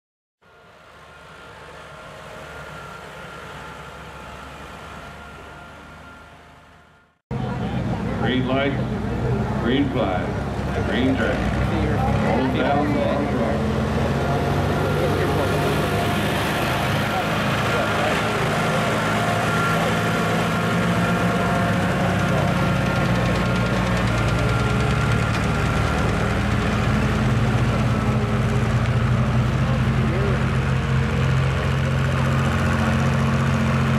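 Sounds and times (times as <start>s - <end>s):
tractor engine rumble: 0.4s - 33.9s.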